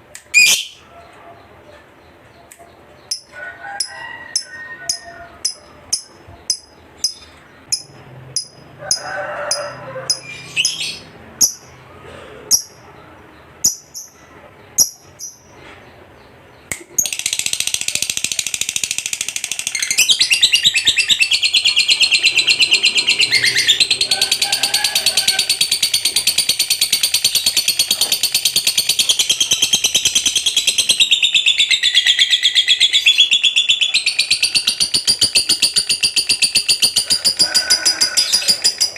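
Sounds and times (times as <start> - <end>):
lovebird chirping and chattering: 0.3 - 0.8, 2.0 - 11.8, 12.5 - 38.9.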